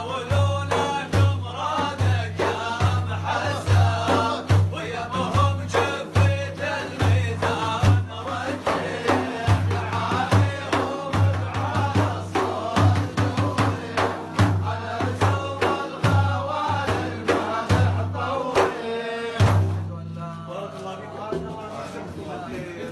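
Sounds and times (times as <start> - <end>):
deep drum beat: 0.0 - 20.2
man singing devotional song: 0.0 - 22.9.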